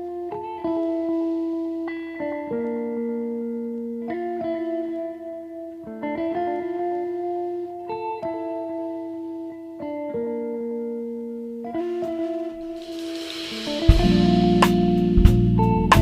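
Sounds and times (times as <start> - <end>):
slow plucked-string melody: 0.0 - 16.0.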